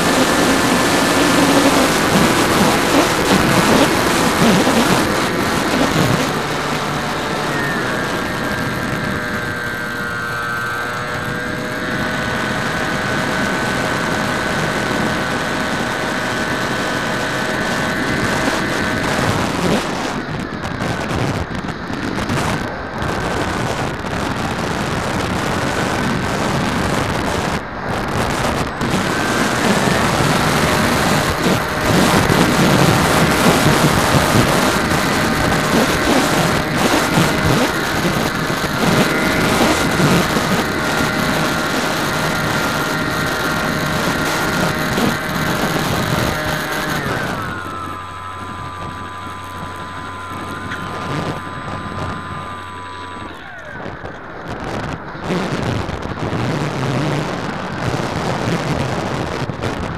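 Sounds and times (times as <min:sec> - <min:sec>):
electric motor whining: 0:00.0 - 0:59.9
wind rush: 0:00.0 - 0:59.9.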